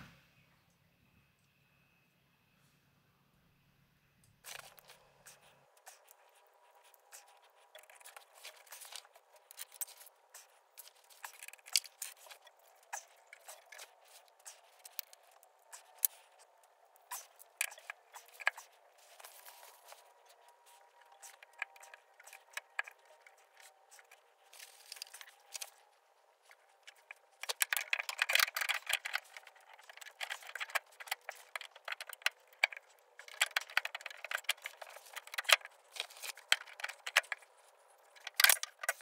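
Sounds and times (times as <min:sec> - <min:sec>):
small metal parts clicking: 0:04.5 - 0:39.0.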